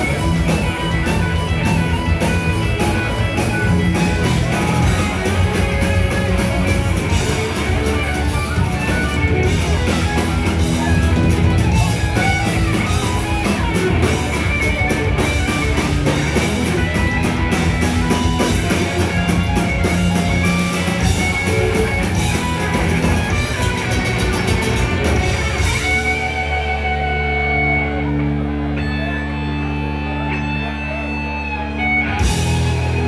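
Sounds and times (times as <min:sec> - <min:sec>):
drum kit: 0:00.0 - 0:29.2, 0:31.9 - 0:33.0
loud electric guitars: 0:00.0 - 0:33.0.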